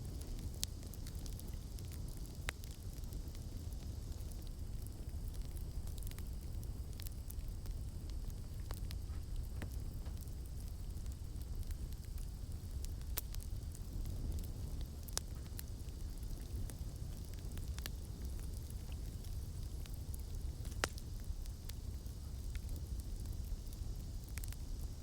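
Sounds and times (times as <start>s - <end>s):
burning wood crackling and popping: 0.0s - 25.0s
campfire flames rumbling: 0.0s - 25.0s.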